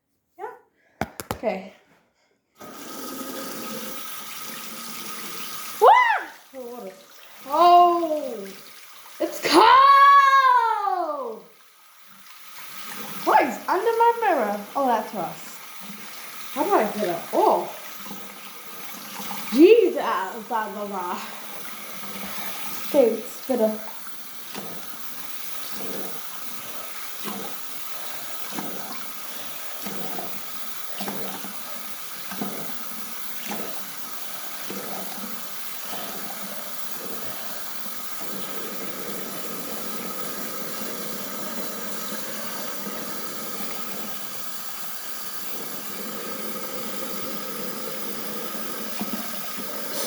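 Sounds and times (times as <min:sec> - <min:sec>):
tap water running into sink: 0:01.0 - 0:01.4, 0:02.6 - 0:50.0.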